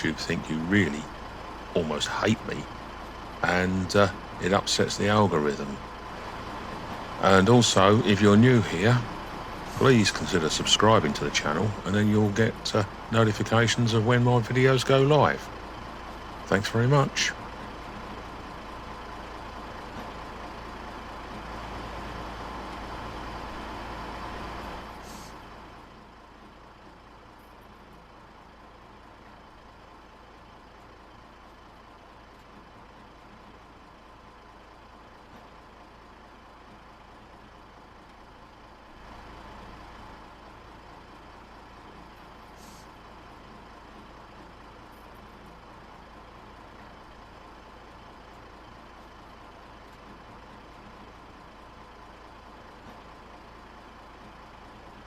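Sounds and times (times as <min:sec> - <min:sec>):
outdoor background rumble and hiss: 0:00.0 - 0:55.0.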